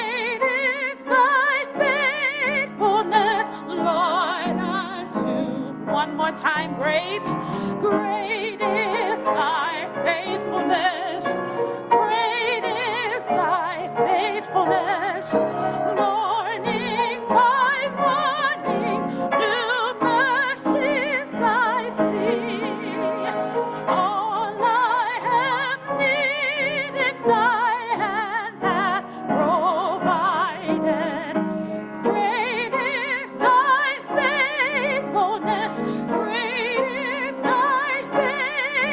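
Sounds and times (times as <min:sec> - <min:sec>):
classical singing with vibrato: 0:00.0 - 0:38.9
piano: 0:00.0 - 0:38.9.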